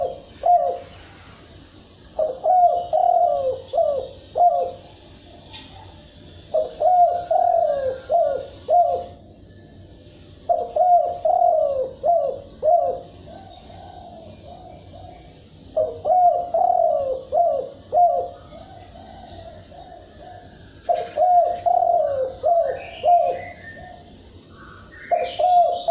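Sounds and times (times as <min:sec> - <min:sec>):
dove cooing: 0:00.0 - 0:01.4, 0:02.1 - 0:05.0, 0:06.4 - 0:09.2, 0:10.1 - 0:25.9.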